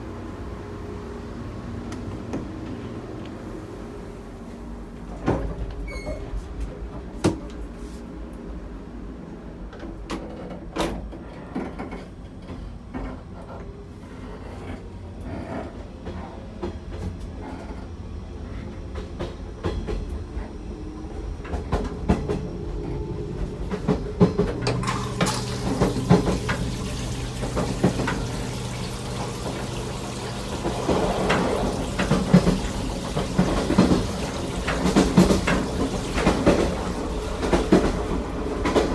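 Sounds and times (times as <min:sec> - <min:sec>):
train rumble: 0:00.0 - 0:38.9.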